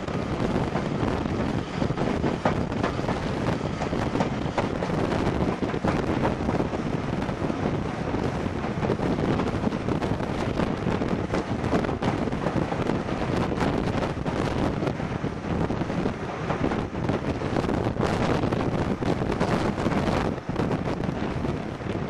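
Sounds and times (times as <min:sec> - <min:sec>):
train running on track: 0:00.0 - 0:22.0
wind buffeting microphone: 0:00.0 - 0:22.0.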